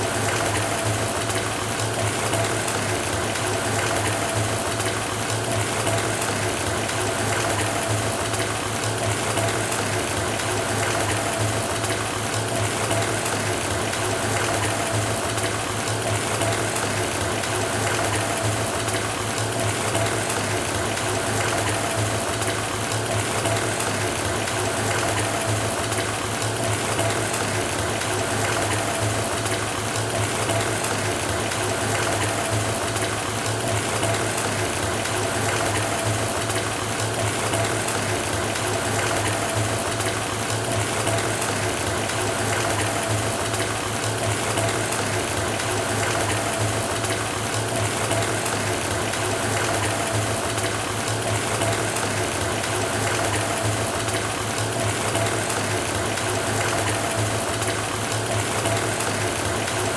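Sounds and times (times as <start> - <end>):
tap water pouring into bathtub: 0.0 - 59.9.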